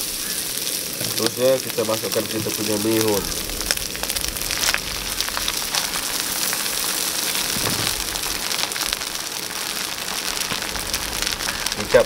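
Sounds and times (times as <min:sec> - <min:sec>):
oil sizzling and crackling in a wok: 0:00.0 - 0:12.0.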